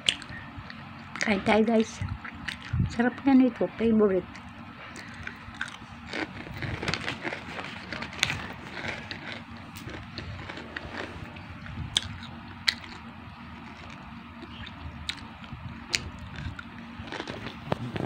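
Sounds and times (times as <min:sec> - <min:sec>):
crunching and chewing pork rind: 0:00.0 - 0:03.0, 0:04.3 - 0:18.0.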